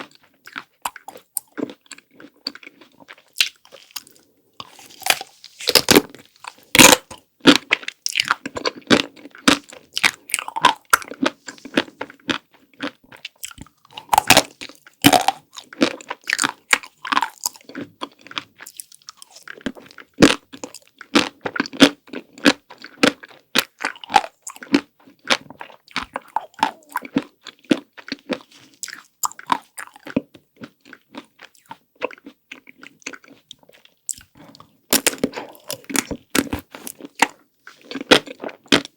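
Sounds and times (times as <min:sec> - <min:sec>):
crunching bites and chewing: 0:00.0 - 0:38.9.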